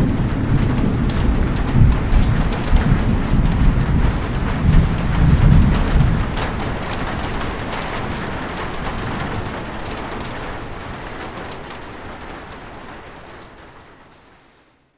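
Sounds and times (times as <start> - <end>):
rain pattering on surfaces: 0.0 - 14.9.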